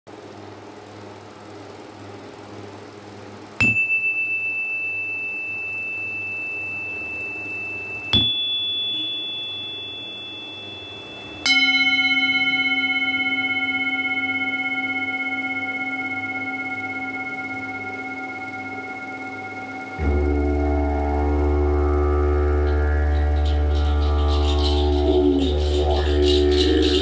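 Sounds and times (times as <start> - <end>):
mallet striking metal chime tubes: 3.6 - 27.0.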